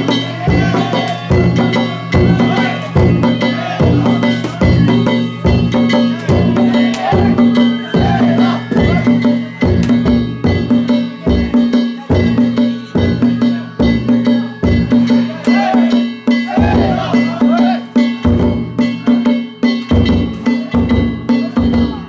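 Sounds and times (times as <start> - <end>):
hand gongs ringing: 0.0 - 22.0
taiko drum beating: 0.0 - 22.0.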